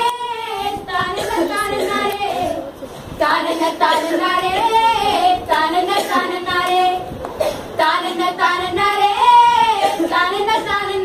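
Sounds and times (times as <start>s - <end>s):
young voice singing: 0.0s - 7.1s, 7.8s - 11.0s.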